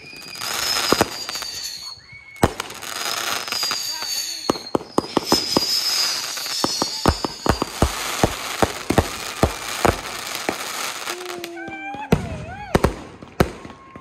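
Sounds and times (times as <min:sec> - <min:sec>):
firework whistle: 0:00.0 - 0:12.8
fireworks bangs and pops: 0:00.0 - 0:14.0
fireworks crackling: 0:00.0 - 0:14.0.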